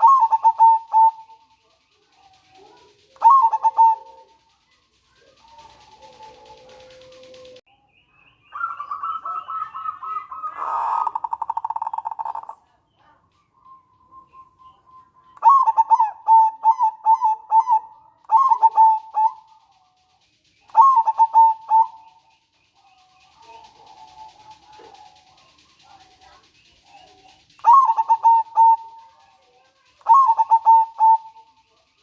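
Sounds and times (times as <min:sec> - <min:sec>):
dove cooing song: 0:00.0 - 0:07.6, 0:08.5 - 0:32.0
dove rattling trill: 0:00.0 - 0:07.7, 0:08.5 - 0:32.0.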